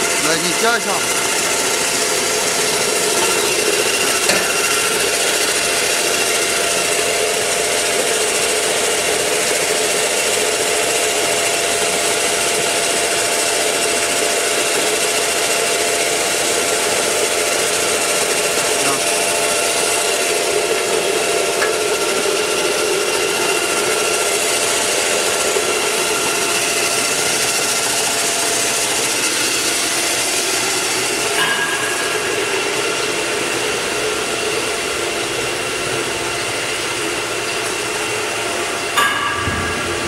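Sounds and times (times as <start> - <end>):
electric crusher whining and grinding: 0.0 - 40.0.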